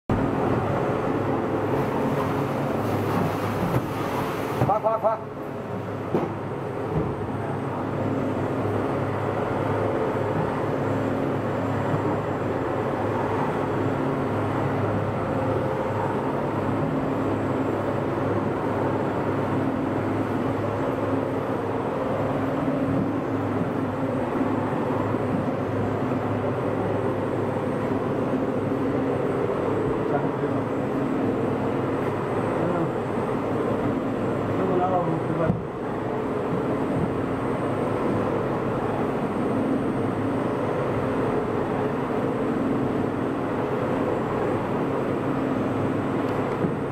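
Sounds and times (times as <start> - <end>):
production machinery humming: 0.1 - 46.9.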